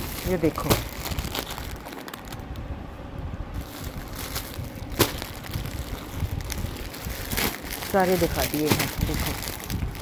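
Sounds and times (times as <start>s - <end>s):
plastic packaging crinkling: 0.0s - 2.6s, 3.6s - 10.0s.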